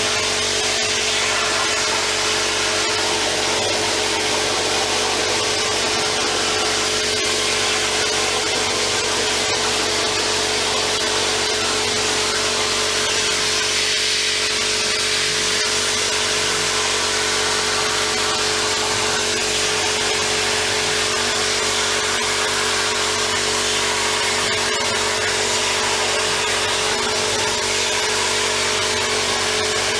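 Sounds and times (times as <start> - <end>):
plasma torch cutting hiss: 0.0 - 29.9.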